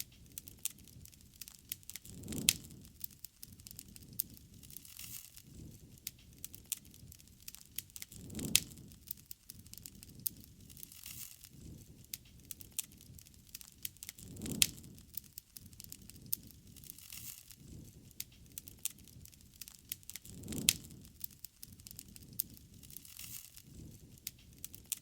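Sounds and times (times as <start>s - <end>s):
campfire crackling: 0.0s - 25.0s
loud fire pops: 0.0s - 25.0s
low rumble of flame: 0.0s - 25.0s.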